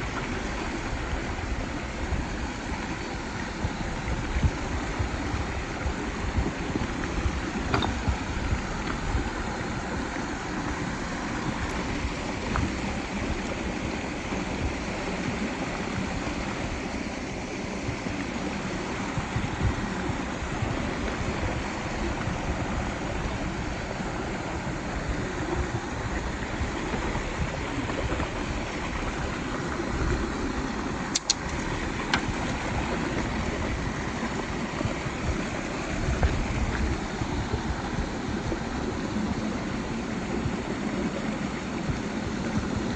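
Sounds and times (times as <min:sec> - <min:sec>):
stream rushing over boulders: 0:00.0 - 0:42.9.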